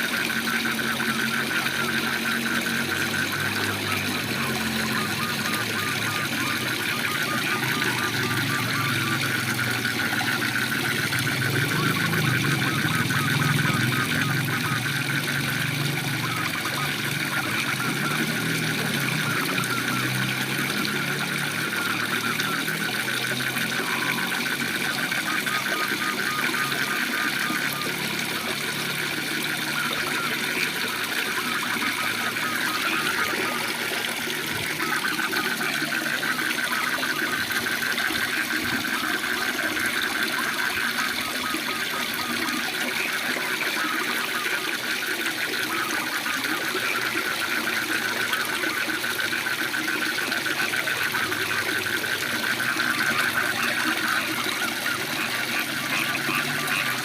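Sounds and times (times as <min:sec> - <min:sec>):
frogs trilling: 0:00.0 - 0:57.0.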